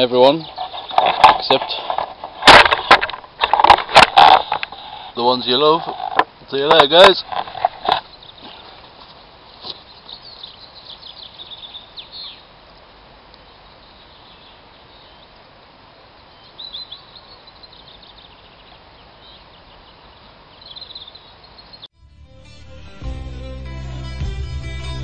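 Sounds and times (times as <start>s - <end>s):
songbirds chirping: 0.0s - 21.9s
open-air background hiss: 0.0s - 25.0s.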